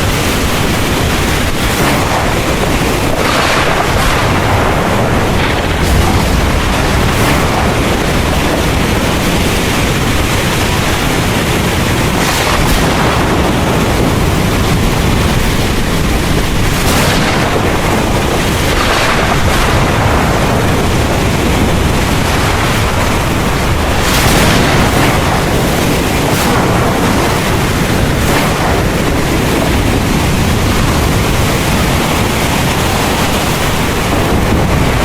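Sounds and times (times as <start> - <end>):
deep thunder rumbling: 0.0 - 35.0
heavy rain pouring: 0.0 - 35.0.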